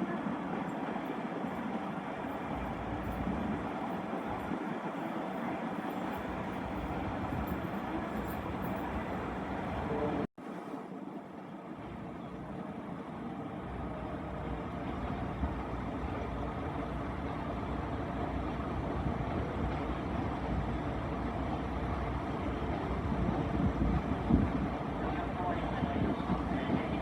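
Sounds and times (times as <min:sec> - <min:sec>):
train engine rumbling: 0:00.0 - 0:27.0.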